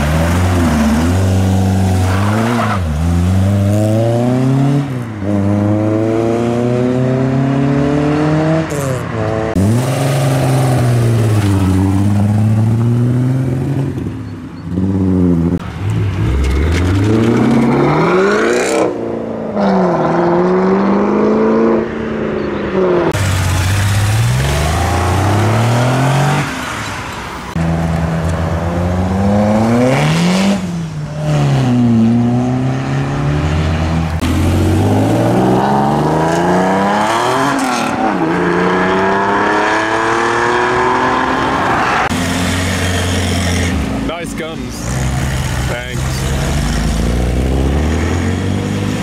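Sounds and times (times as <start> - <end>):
car engines accelerating: 0.0 - 49.0
cars revving and changing gear: 0.0 - 49.0.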